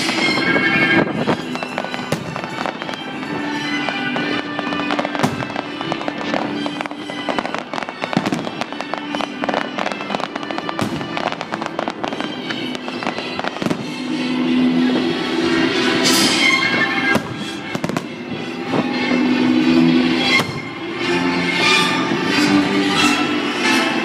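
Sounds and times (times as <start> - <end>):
fireworks bangs and crackles: 0.0 - 24.0
music with held notes: 0.0 - 24.0.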